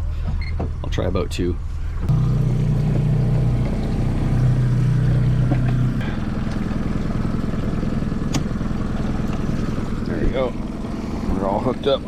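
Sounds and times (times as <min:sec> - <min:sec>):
outboard motor humming: 0:01.7 - 0:12.0.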